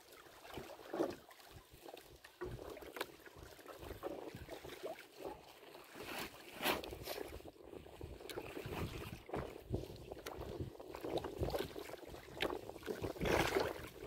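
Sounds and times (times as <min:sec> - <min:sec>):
waves slapping against boat hull: 0:00.4 - 0:14.0
wind on microphone: 0:02.4 - 0:14.0.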